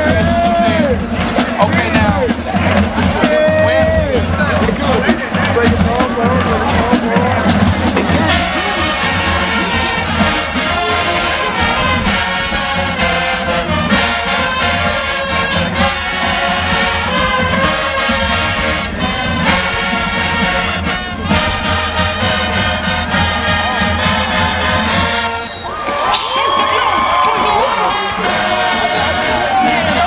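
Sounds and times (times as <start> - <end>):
drums with steady beat: 0.0 - 25.4, 26.0 - 30.0
marching band playing: 0.0 - 30.0
trumpets and trombones: 0.0 - 30.0.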